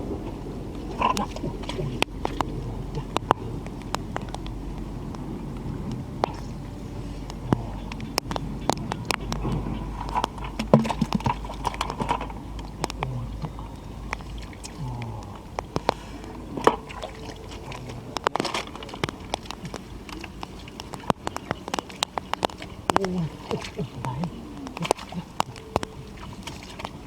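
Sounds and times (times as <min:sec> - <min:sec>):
water splashing: 0:00.0 - 0:27.0.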